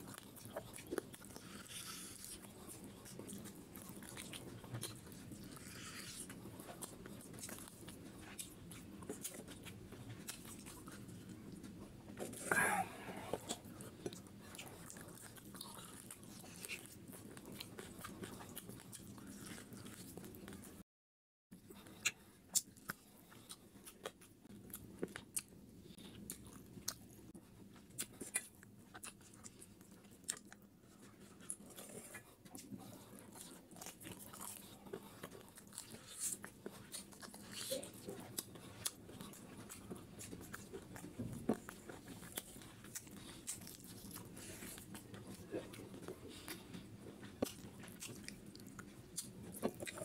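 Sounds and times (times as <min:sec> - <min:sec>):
chewing with sharp crunches: 0:00.0 - 0:20.8, 0:21.6 - 0:50.0.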